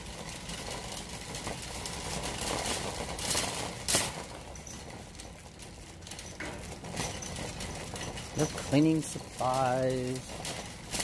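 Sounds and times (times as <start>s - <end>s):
shopping cart clatter: 0.0s - 11.0s
wire shopping cart rattling: 0.0s - 11.0s.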